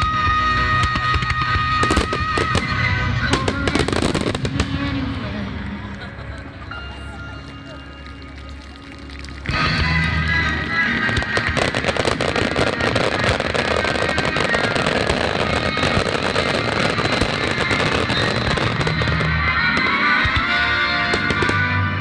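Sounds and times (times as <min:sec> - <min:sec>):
fireworks crackling: 0:00.0 - 0:06.4, 0:07.3 - 0:22.0
music: 0:00.0 - 0:22.0.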